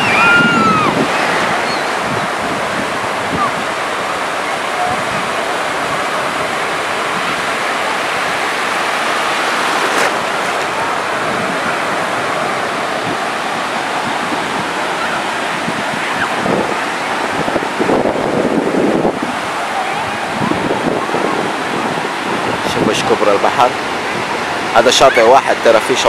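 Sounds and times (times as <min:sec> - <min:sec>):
small waves breaking on shore: 0:00.0 - 0:26.0.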